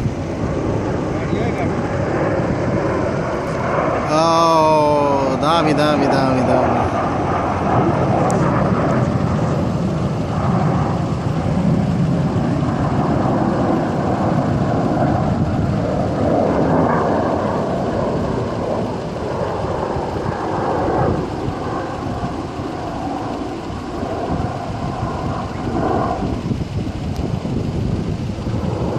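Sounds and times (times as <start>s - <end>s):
jet engines passing overhead: 0.0s - 28.9s.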